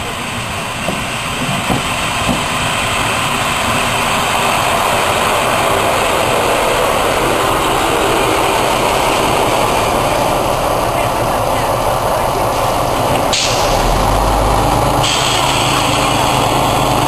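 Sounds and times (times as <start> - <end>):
diesel railcar engine: 0.0 - 17.0
train wheels on rails: 0.0 - 17.0.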